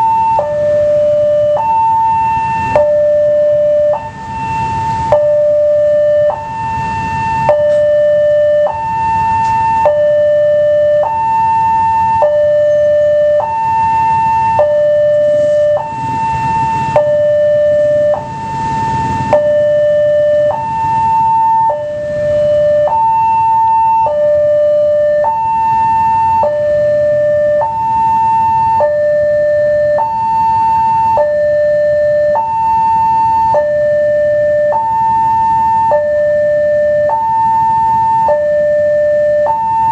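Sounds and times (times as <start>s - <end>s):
two-tone crossing warning alarm: 0.0s - 39.9s.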